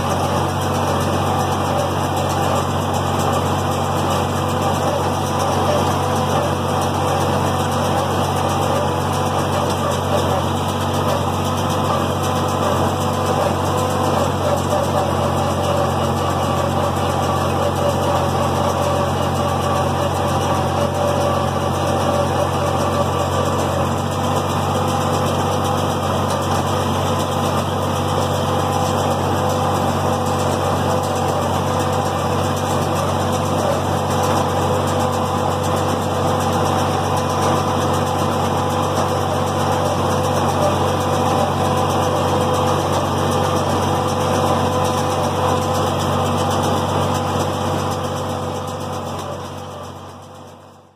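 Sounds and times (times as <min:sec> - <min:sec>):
baler baling hay: 0:00.0 - 0:50.1
tractor engine running under load: 0:00.0 - 0:50.9.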